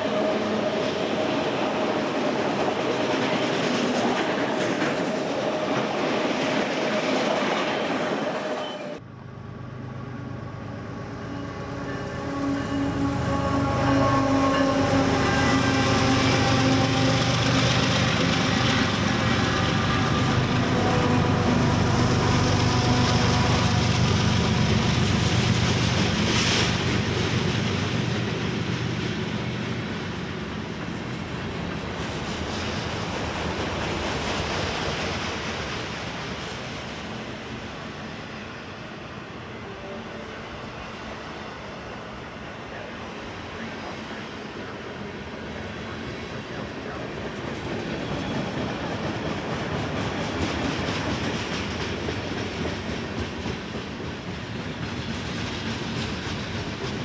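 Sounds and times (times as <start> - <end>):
diesel locomotive engines: 0.0 - 57.0.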